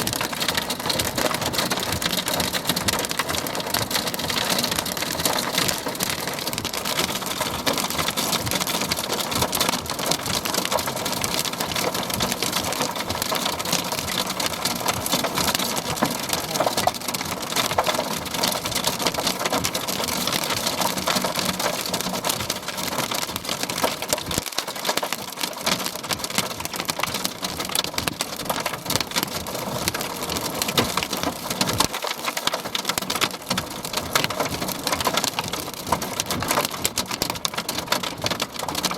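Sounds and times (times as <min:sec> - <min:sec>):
heavy rain on hard surface: 0:00.0 - 0:38.9.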